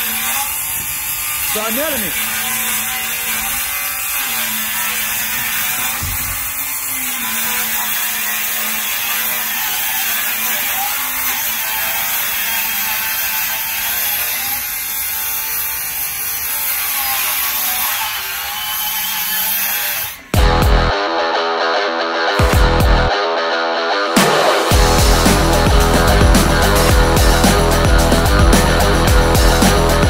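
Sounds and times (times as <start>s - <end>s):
circular saw cutting: 0.0s - 20.7s, 24.2s - 30.0s.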